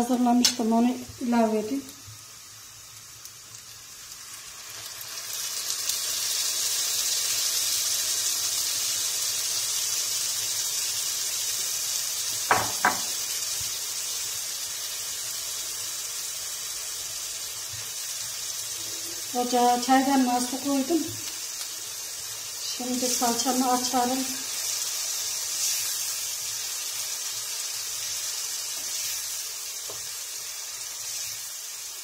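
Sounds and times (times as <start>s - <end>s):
tomato sauce sizzling in a frying pan: 0.0s - 32.0s.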